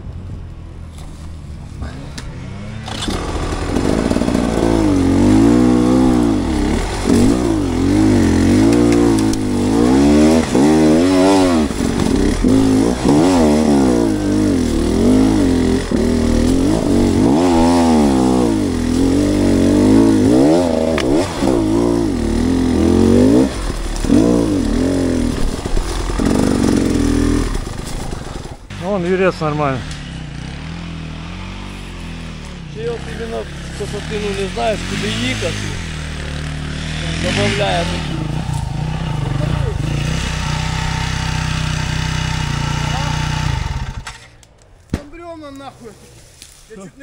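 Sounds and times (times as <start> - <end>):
dirt bike engine revving: 1.7 - 44.4.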